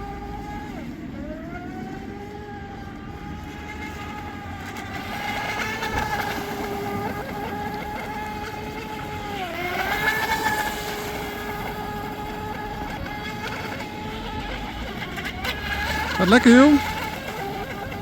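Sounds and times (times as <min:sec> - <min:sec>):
electric boat motor whining: 0:00.0 - 0:18.0.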